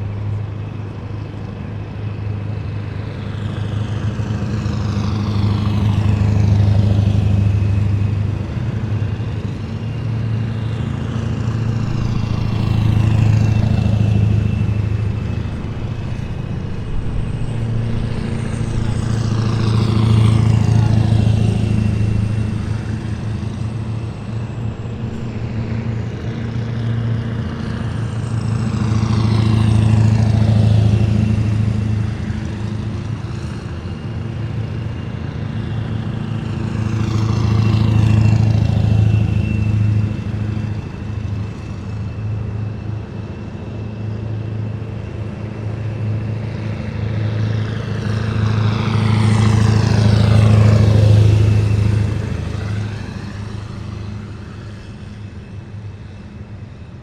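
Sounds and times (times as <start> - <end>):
heavy vehicles driving past: 0.1 - 57.0.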